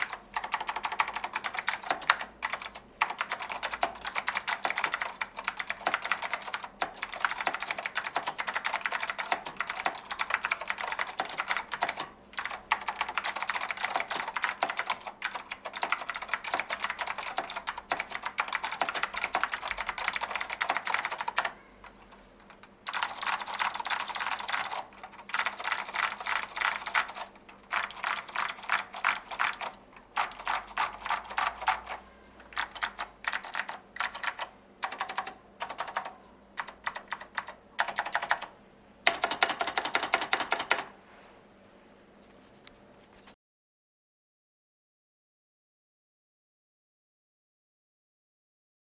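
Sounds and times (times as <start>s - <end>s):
clicky mechanical keyboard typing: 0.0s - 40.9s.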